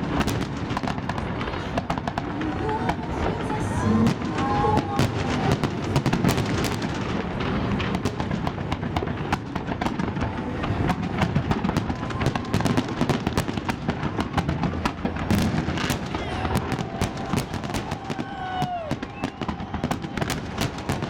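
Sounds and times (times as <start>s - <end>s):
fireworks bangs and crackling pops: 0.0s - 21.0s.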